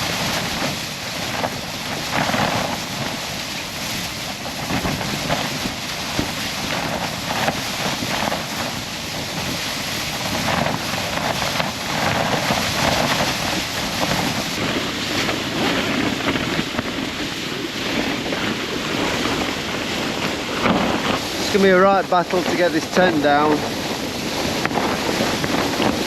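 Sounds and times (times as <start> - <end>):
gusting wind on microphone: 0.0 - 26.0.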